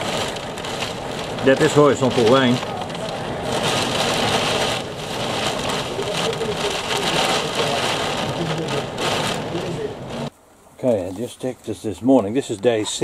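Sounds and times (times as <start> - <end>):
heavy wind-driven rain: 0.0 - 10.7.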